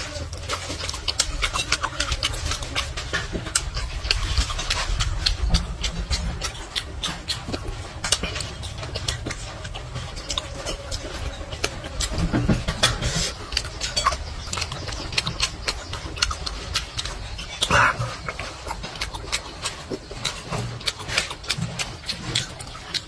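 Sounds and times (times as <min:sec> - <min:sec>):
person chewing with wet smacks: 0:00.0 - 0:23.0.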